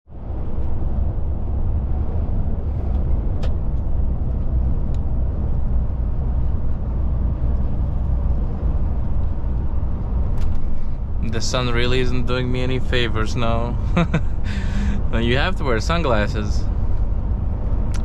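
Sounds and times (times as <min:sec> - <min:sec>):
truck diesel engine rumble: 0:00.1 - 0:18.0.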